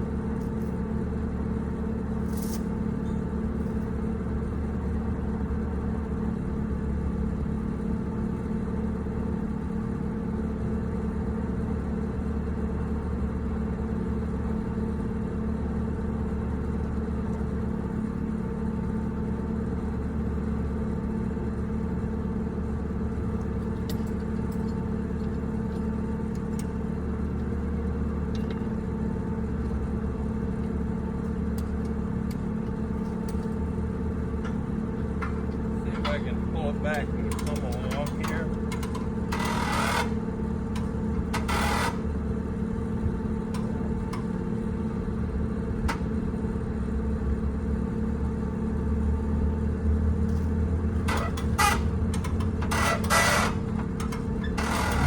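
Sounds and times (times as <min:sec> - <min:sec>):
motor running steadily: 0:00.0 - 0:55.0.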